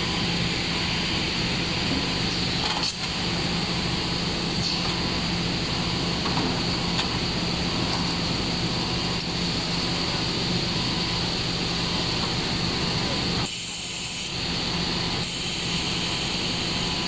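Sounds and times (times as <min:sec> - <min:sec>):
machine drone with high whine: 0:00.0 - 0:17.0.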